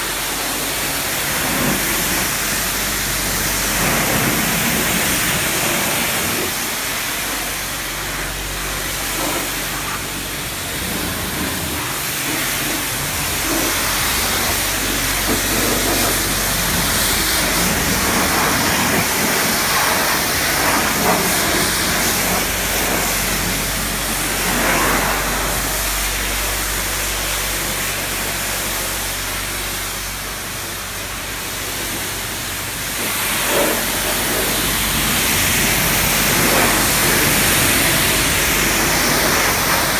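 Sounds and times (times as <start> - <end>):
pressure washer jet spraying: 0.0 - 39.9.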